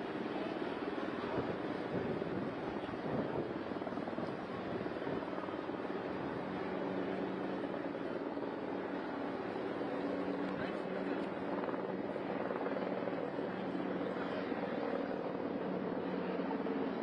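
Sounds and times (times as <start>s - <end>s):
aircraft drone flying over: 0.0s - 17.0s.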